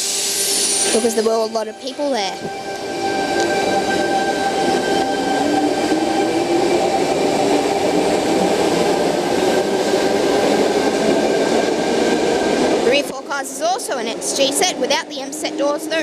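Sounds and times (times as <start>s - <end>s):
electric train running past: 0.0s - 16.0s
train whine rising: 0.0s - 16.0s.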